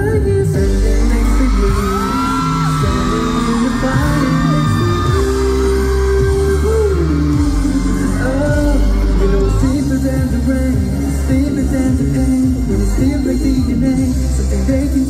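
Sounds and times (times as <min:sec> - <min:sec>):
pop music with heavy bass: 0:00.0 - 0:15.0
fans screaming and whooping: 0:00.4 - 0:15.0.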